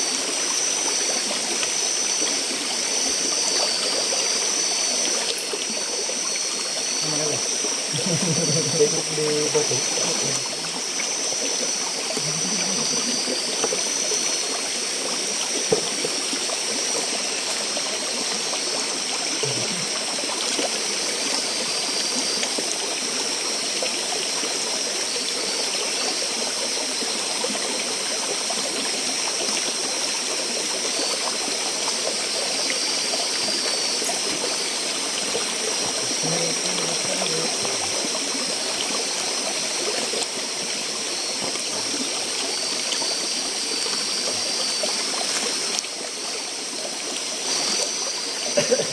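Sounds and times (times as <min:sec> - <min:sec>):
high-pitched whine: 0:00.0 - 0:48.9
river flowing: 0:00.0 - 0:48.9.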